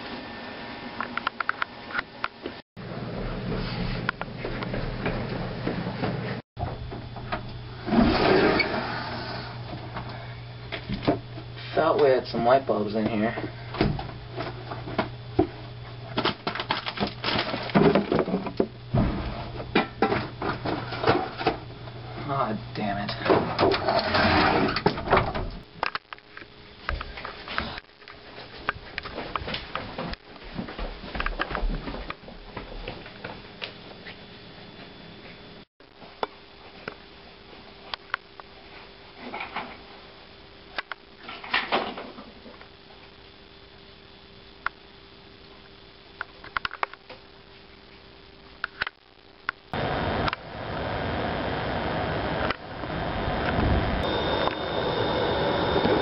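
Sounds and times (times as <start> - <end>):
steady low hum: 0.0 - 24.0, 24.6 - 56.0.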